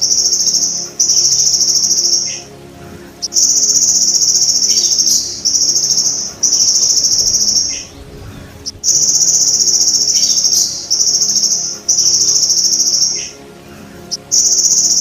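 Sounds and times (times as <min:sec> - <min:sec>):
grasshopper buzzing trill: 0:00.0 - 0:13.4, 0:14.0 - 0:15.0.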